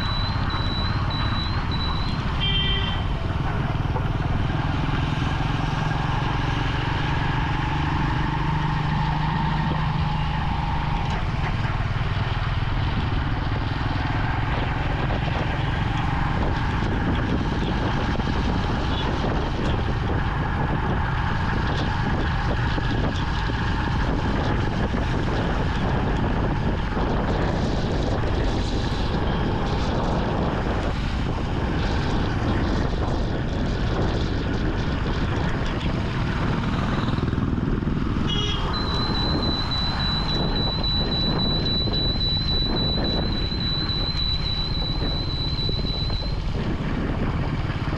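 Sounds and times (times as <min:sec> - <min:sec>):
motorcycle engine running: 0:00.0 - 0:47.9
noisy rush: 0:00.0 - 0:47.9.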